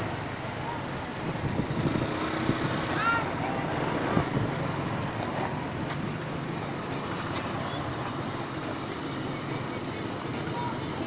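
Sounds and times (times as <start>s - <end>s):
road and wind noise: 0.0s - 11.0s
vehicle engine running: 0.0s - 11.0s.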